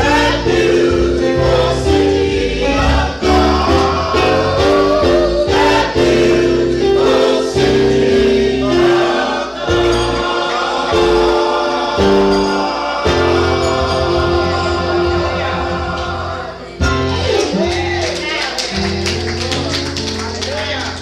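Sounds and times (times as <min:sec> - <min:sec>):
gospel choir singing: 0:00.0 - 0:17.6.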